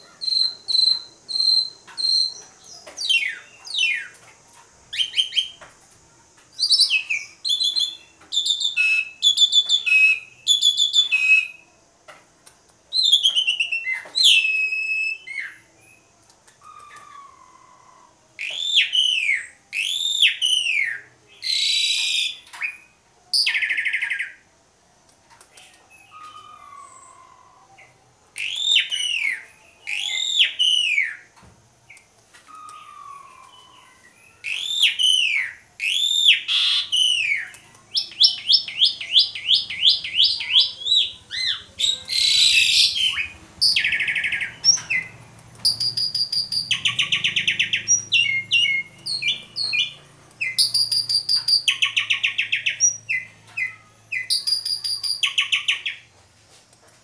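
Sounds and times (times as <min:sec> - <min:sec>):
starling singing: 0:00.0 - 0:04.2, 0:04.9 - 0:05.7, 0:06.6 - 0:11.6, 0:12.9 - 0:24.4, 0:25.5 - 0:31.3, 0:32.5 - 0:56.1.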